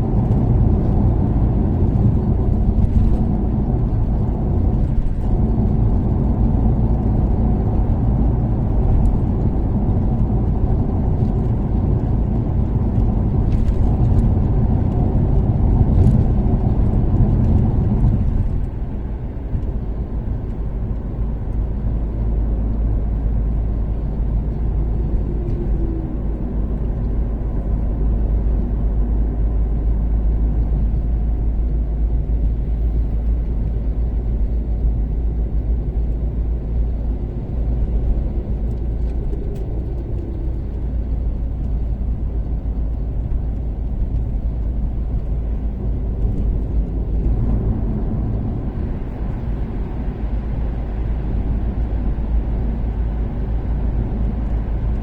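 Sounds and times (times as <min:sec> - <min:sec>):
car engine pulling at speed: 0:00.0 - 0:55.0
tyre road rumble: 0:00.0 - 0:55.0.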